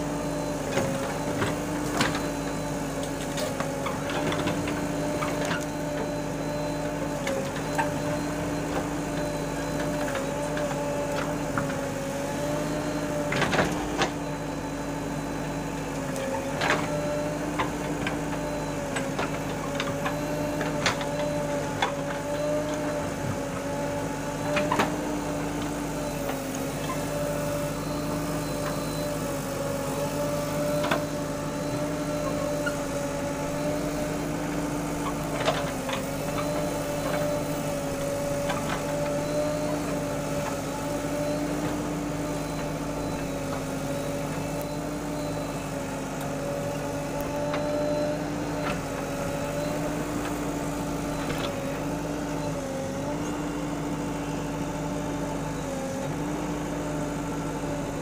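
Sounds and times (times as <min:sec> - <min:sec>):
backhoe digging soil: 0:00.0 - 0:58.0
diesel engine running: 0:00.0 - 0:58.0.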